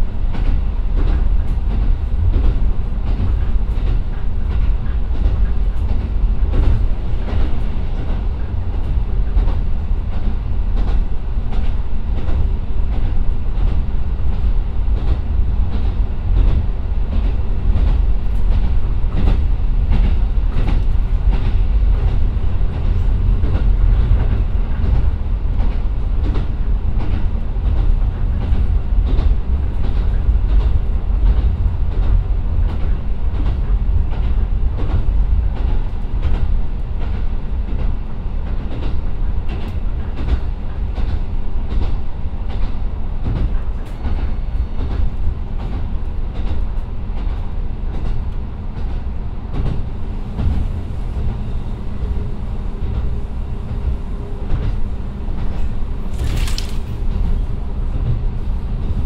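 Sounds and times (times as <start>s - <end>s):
diesel railcar low rumble: 0.0s - 59.0s.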